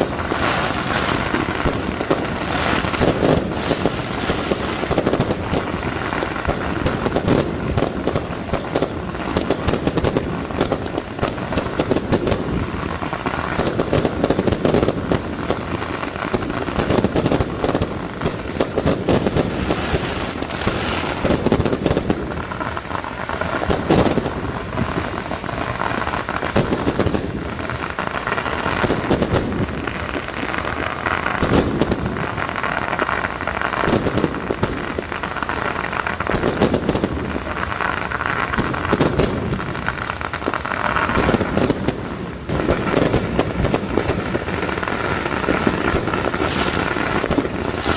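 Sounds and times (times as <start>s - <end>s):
fireworks crackling and banging: 0.0s - 47.9s.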